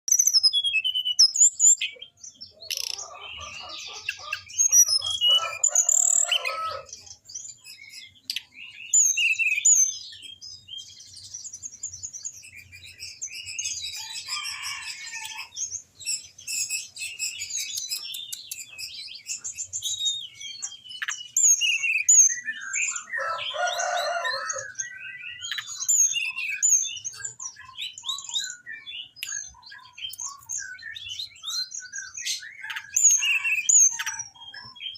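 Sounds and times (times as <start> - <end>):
songbird chirping and trilling: 0.0 - 34.9.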